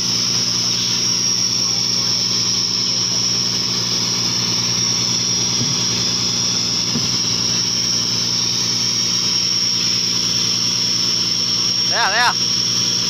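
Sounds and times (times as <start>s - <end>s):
boat engine drone: 0.0s - 13.0s
thin high whine: 0.0s - 13.0s.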